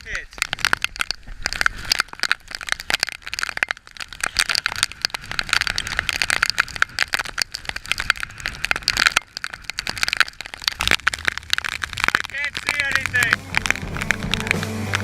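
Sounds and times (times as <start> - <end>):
heavy rain drumming on camera: 0.0 - 15.0
wind and road noise: 0.0 - 15.0.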